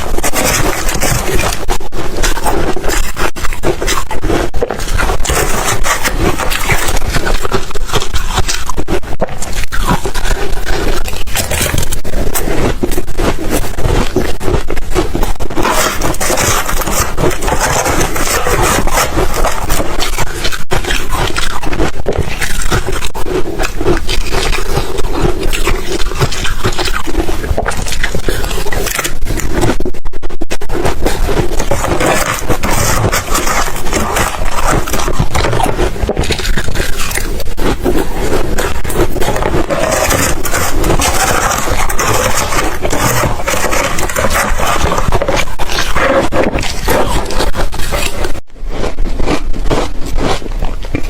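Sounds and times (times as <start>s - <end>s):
ice crunching between teeth: 0.0s - 51.0s.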